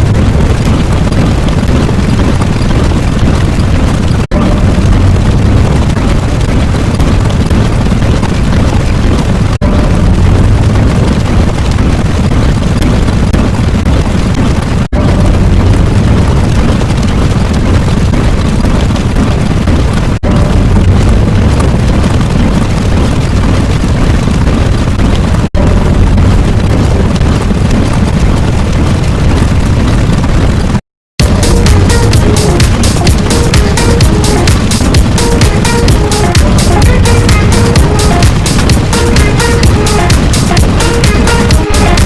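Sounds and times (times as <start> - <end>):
deep rumbling: 0.0 - 42.0.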